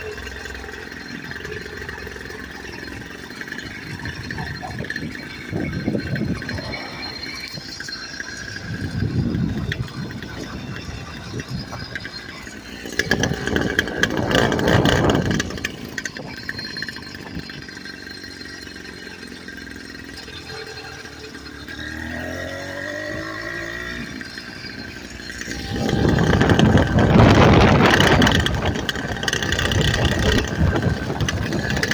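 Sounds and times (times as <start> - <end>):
motorbike engine revving: 0.0 - 31.9.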